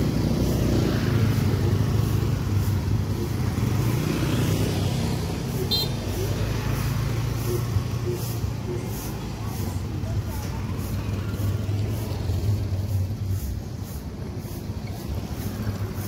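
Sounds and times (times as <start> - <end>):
motorcycle engines passing: 0.0 - 16.0.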